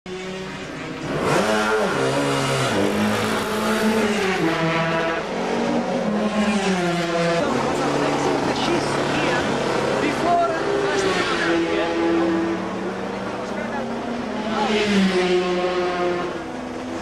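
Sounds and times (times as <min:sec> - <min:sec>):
racing motorcycle engine revving: 0:00.1 - 0:17.0.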